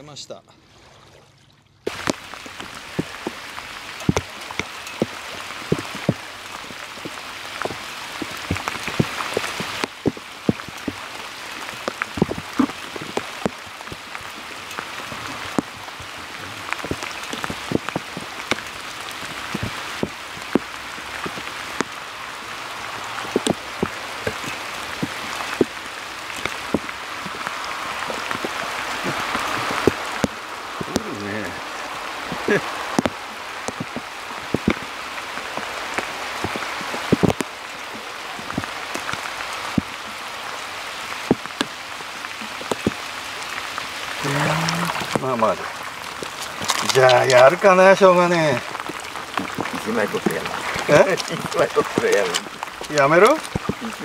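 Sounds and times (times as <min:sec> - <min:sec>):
rain falling: 0:01.8 - 0:54.0
raindrops tapping close by: 0:01.8 - 0:54.0.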